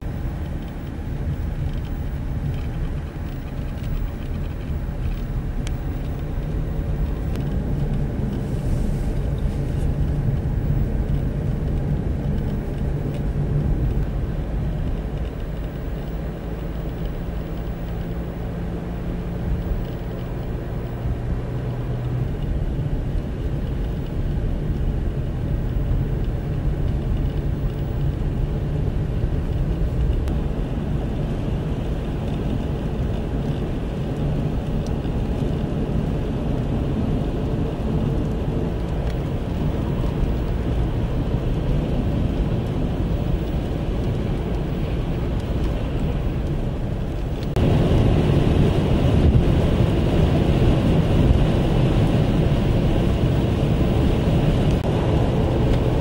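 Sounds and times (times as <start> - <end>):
car road noise from inside: 0.0 - 56.0.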